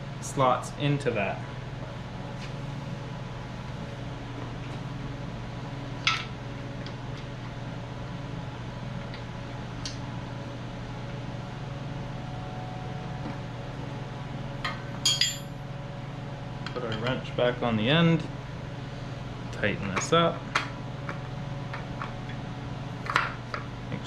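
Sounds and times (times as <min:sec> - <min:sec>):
fan humming: 0:00.0 - 0:24.0.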